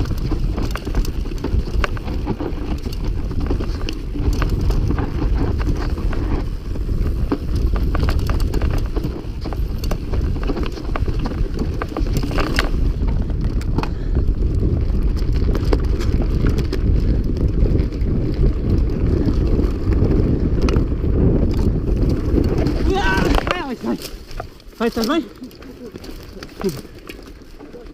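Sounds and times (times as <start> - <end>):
clicks and rattles of stones: 0.0 - 27.9
tyres on loose ground: 0.0 - 27.9
wind buffeting microphone: 0.0 - 27.9.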